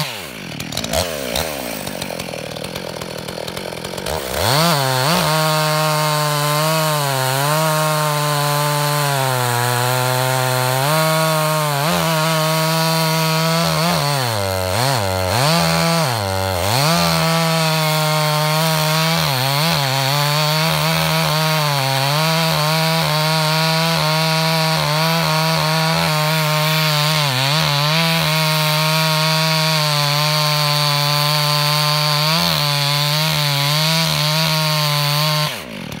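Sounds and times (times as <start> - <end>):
chainsaw cutting log: 0.0 - 36.0.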